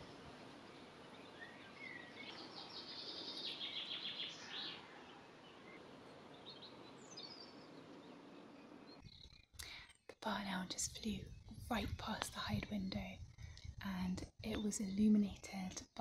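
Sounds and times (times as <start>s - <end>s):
songbird song: 0.0s - 16.0s
steady outdoor hiss: 0.0s - 16.0s.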